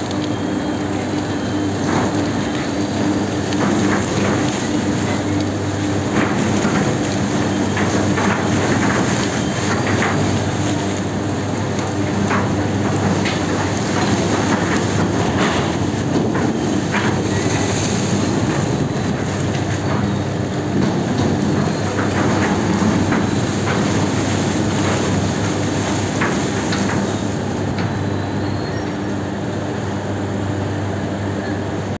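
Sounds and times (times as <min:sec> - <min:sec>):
machinery humming and clattering: 0:00.0 - 0:32.0.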